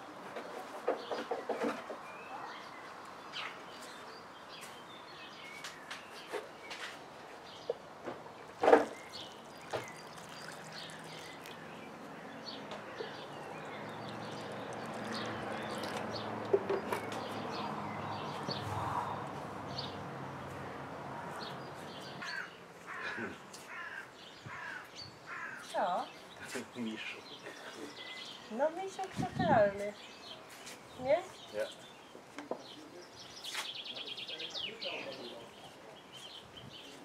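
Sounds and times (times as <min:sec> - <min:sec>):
small birds chirping: 0:00.8 - 0:37.0.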